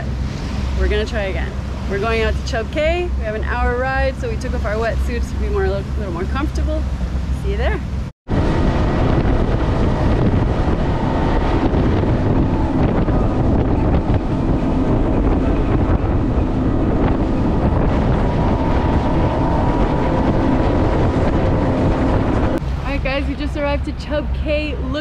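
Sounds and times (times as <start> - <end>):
outboard engine drone: 0.0 - 25.0
water rushing off hull: 0.0 - 25.0
wind buffeting microphone: 0.0 - 25.0.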